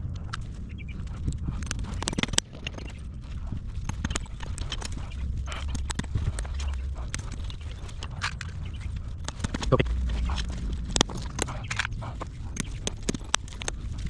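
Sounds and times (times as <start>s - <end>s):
horse hooves clopping on hard ground: 0.0s - 14.0s.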